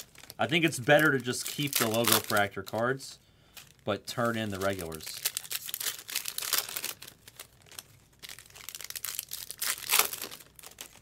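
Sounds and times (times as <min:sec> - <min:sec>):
foil wrappers crinkling and tearing: 0:00.0 - 0:11.0.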